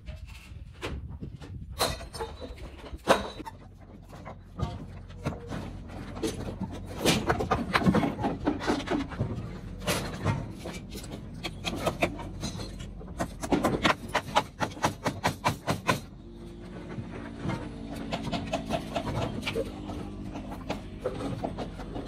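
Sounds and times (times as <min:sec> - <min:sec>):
knocks of wood and metal: 0:00.0 - 0:22.0.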